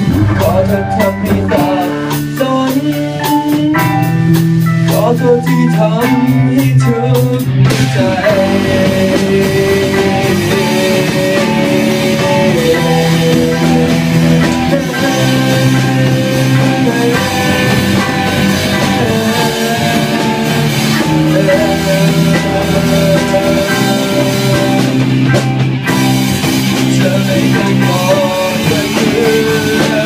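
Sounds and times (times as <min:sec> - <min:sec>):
instrumental rock band: 0:00.0 - 0:30.0.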